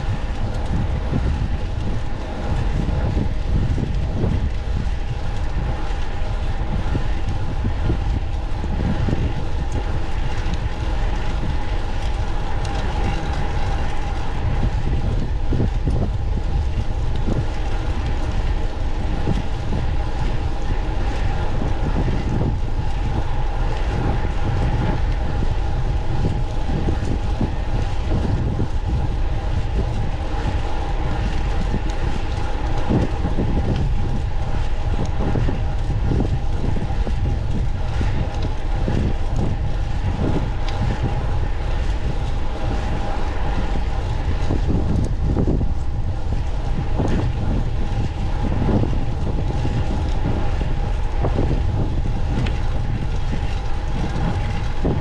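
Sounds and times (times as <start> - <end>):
bicycle drivetrain hum: 0.0 - 55.0
bicycle road rumble: 0.0 - 55.0
wind rush: 0.0 - 55.0.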